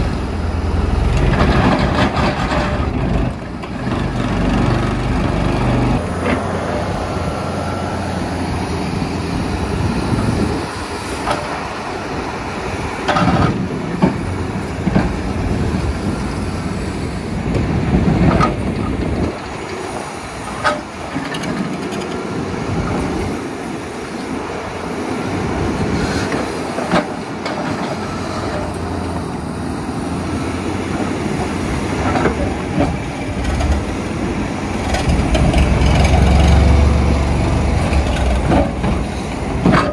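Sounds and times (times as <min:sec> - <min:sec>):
diesel engine running: 0:00.0 - 0:24.0, 0:24.6 - 0:39.9.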